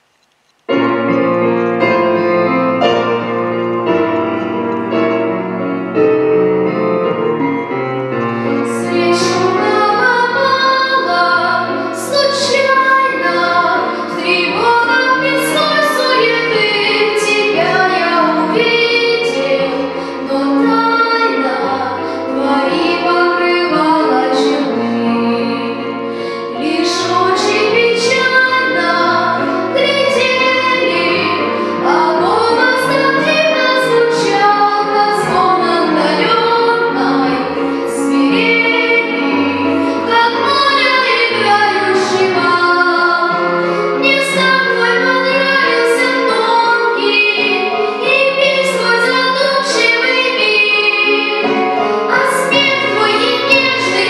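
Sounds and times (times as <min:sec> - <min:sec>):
piano accompaniment: 0:00.0 - 0:54.0
boy singing: 0:08.7 - 0:25.8, 0:26.6 - 0:51.4, 0:52.1 - 0:54.0.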